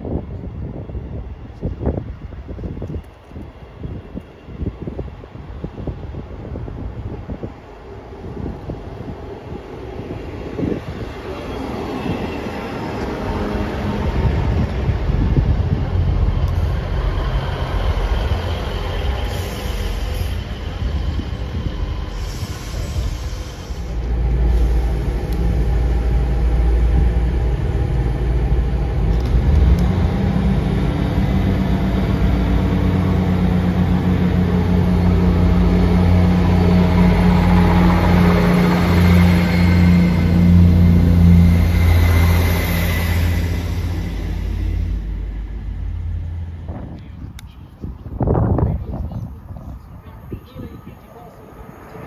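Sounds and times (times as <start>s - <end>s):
diesel train engine rumbling: 0.0s - 52.0s.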